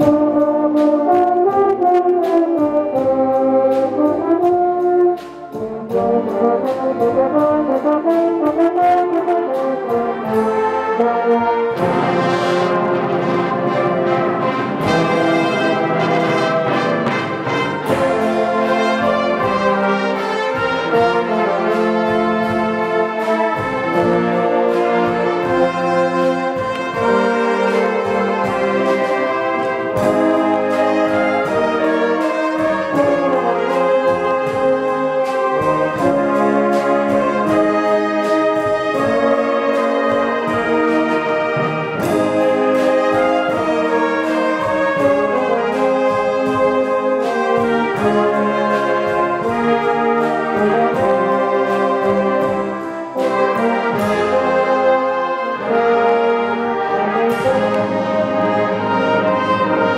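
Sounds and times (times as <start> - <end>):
brass band playing: 0.0 - 59.9
steady percussion beat: 0.0 - 59.9.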